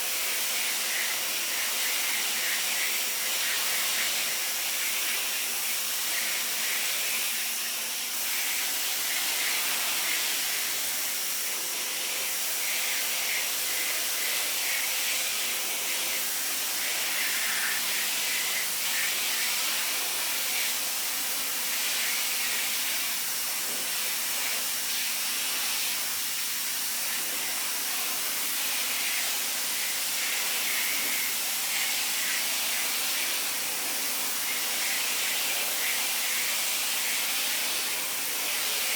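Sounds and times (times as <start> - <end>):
pressure washer water jet hissing: 0.0 - 38.9.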